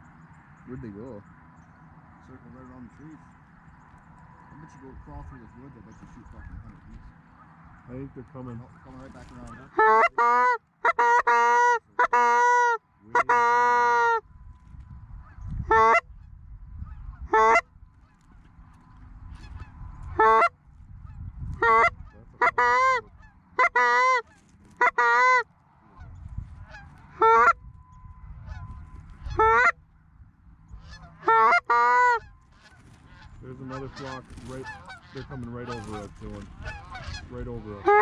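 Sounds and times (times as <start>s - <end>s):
goose honking: 2.3s - 14.3s, 15.1s - 30.1s, 30.7s - 38.0s.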